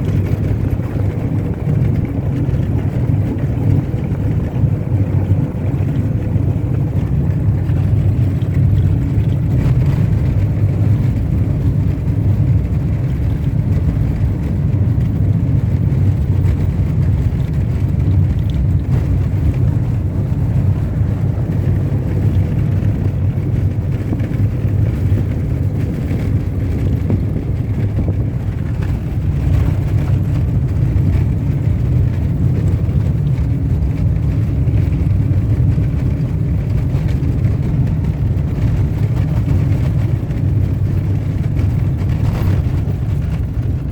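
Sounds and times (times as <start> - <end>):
vehicle engine and tyres rumbling: 0.0 - 43.9.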